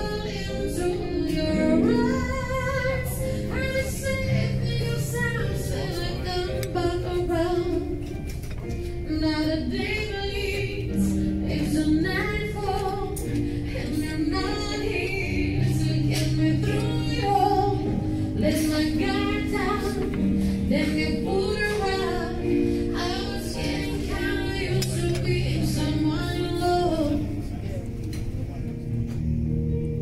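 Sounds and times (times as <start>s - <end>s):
woman singing: 0.0s - 8.1s, 9.0s - 27.5s.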